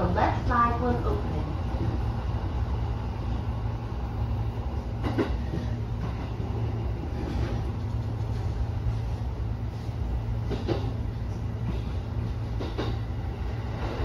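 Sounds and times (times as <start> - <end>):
train rumble and hum: 0.0 - 14.0.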